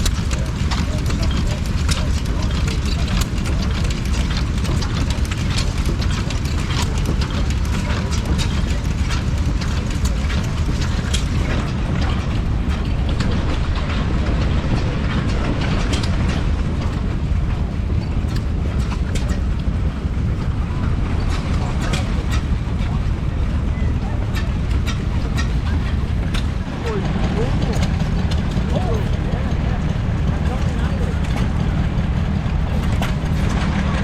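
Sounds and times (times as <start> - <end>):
stationary engine droning: 0.0 - 34.0.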